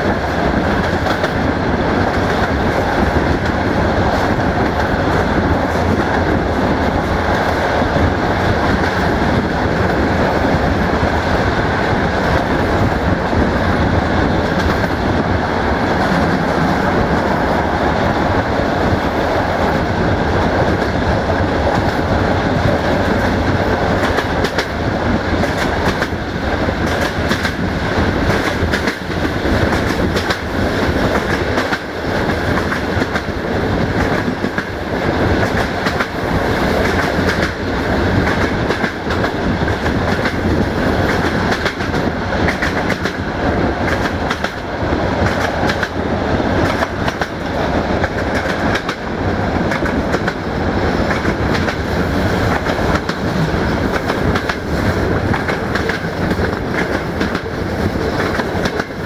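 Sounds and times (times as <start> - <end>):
train wheels rumbling on rails: 0.0 - 59.0
wheels clacking over rail joints: 0.0 - 59.0.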